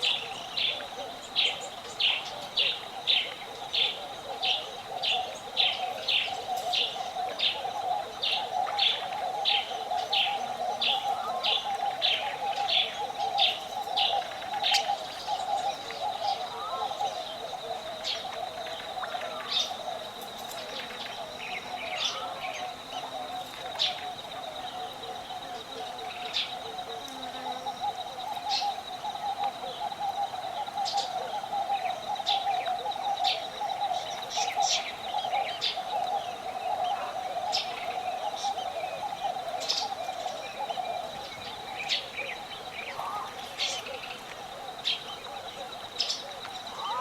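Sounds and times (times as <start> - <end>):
birds chirping and calling: 0.0 - 47.0.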